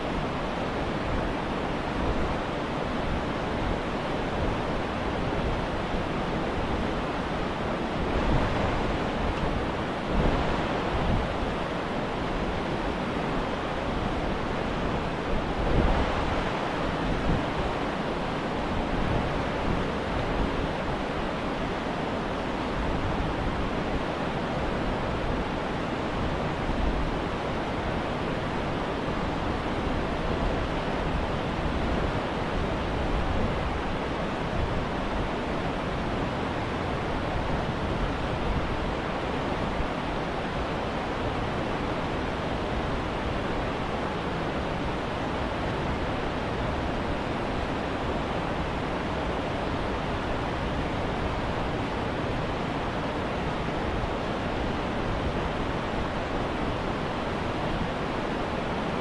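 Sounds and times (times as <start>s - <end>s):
river rushing over boulders: 0.0s - 59.0s.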